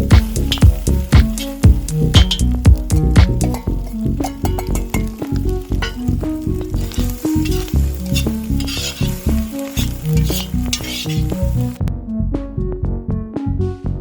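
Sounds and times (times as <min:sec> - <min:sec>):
omelette sizzling in frying pan: 0:00.0 - 0:11.8
background music with steady beat: 0:00.0 - 0:14.0.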